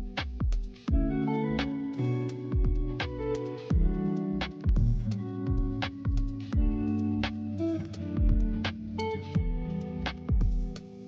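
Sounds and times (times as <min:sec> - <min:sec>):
kick drum and snare beat: 0:00.0 - 0:01.8, 0:02.5 - 0:07.4, 0:08.1 - 0:10.9
sustained guitar or keyboard notes: 0:00.9 - 0:11.0.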